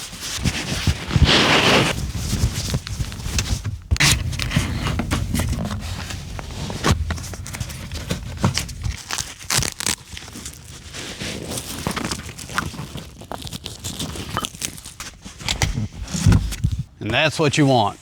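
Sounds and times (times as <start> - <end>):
seat cover rustling and crinkling: 0.0 - 16.9
ripping sounds: 0.4 - 16.3.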